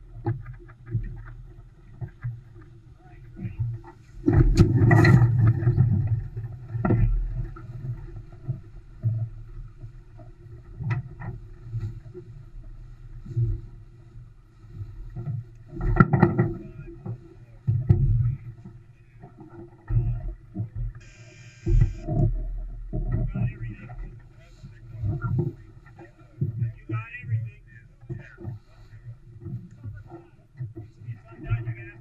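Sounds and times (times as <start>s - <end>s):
water noise: 0.0s - 32.0s.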